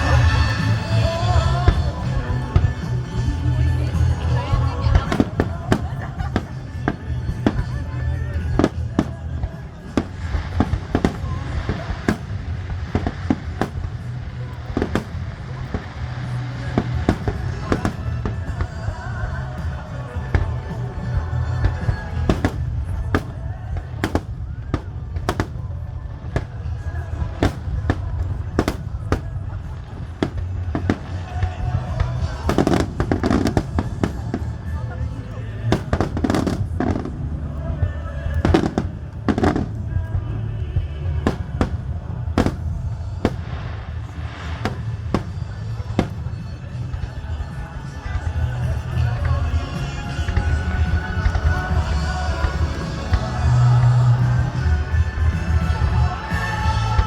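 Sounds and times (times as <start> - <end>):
fireworks bursting: 0.0 - 57.0
low rumble: 0.0 - 57.0
music playing: 0.0 - 57.0.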